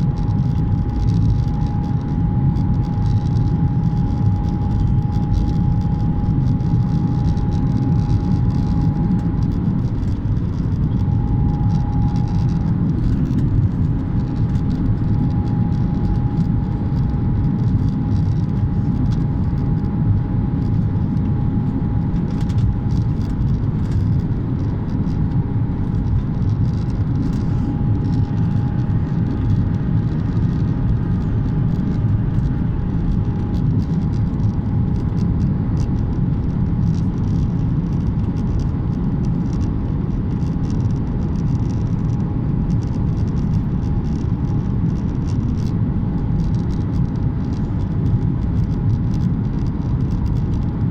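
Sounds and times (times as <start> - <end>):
airliner cabin rumble: 0.0 - 50.9
thin steady whine: 0.0 - 50.9.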